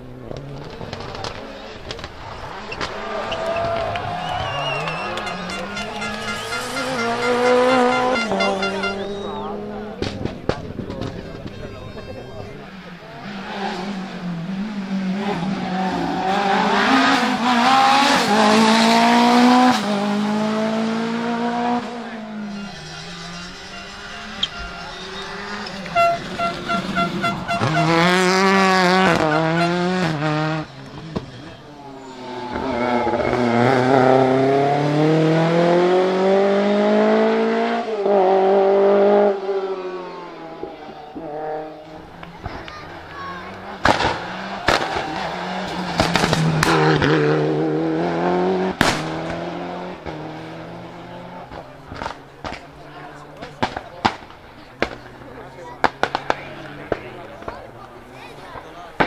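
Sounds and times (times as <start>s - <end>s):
rally car accelerating past: 0.1s - 10.0s, 12.7s - 52.6s.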